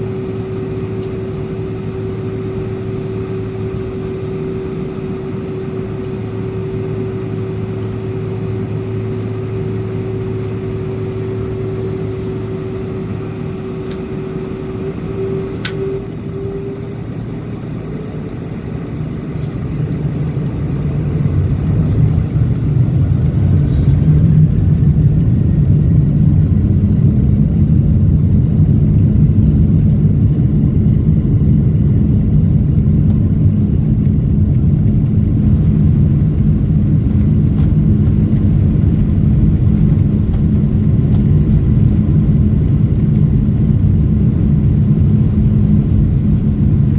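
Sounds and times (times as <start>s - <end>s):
airliner cabin rumble: 0.0s - 46.9s.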